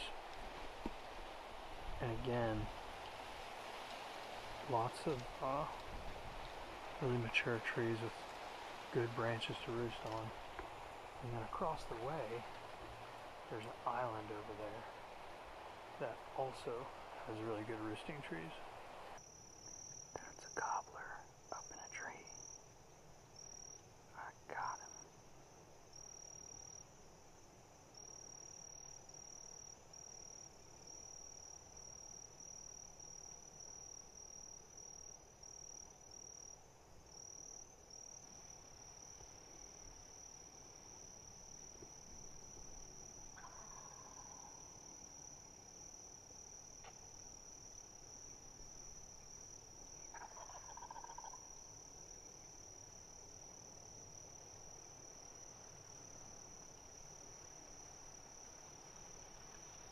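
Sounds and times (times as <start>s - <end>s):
insect trilling: 0.0s - 22.7s, 23.4s - 25.2s, 28.0s - 59.9s.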